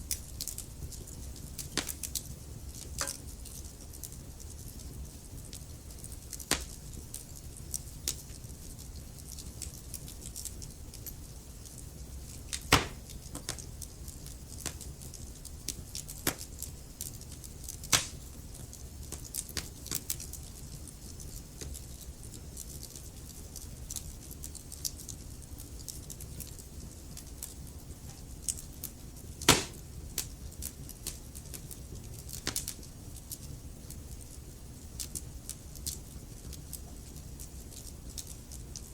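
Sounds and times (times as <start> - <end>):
sharp pops and snaps: 0.0 - 38.9
wood fire crackling: 0.0 - 38.9.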